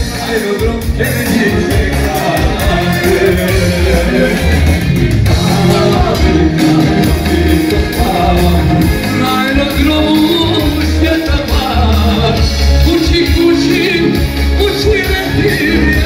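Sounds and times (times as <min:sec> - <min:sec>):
electronic keyboard dance music: 0:00.0 - 0:16.0
man singing into microphone: 0:00.0 - 0:16.0.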